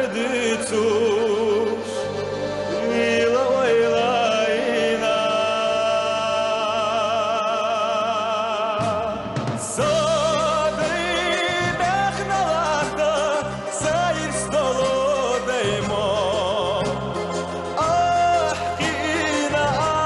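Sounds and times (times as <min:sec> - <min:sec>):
instrumental accompaniment: 0:00.0 - 0:20.0
man singing into a microphone: 0:00.0 - 0:20.0.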